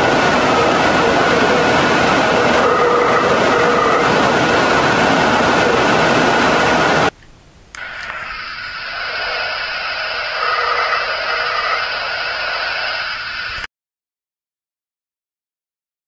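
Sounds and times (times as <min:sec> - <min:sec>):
loud recording hiss: 0:00.0 - 0:13.7.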